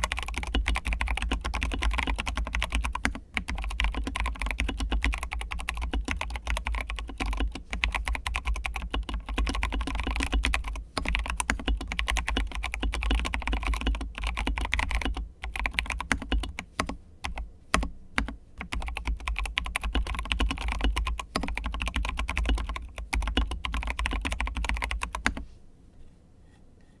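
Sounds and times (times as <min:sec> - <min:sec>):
mechanical keyboard typing: 0:00.0 - 0:25.4.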